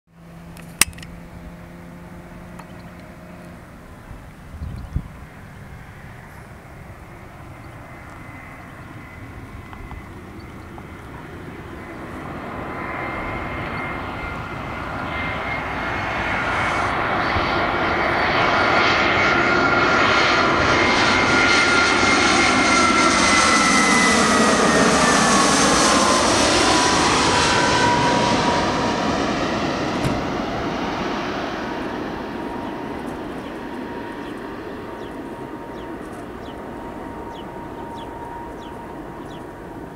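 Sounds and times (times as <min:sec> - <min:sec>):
high engine whine dropping in pitch: 0:00.2 - 0:39.9
jet engine roar overhead: 0:00.2 - 0:39.9.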